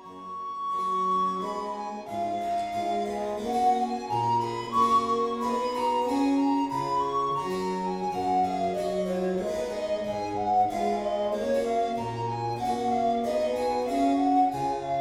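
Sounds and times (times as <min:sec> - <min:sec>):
baroque harpsichord music: 0:00.0 - 0:15.0.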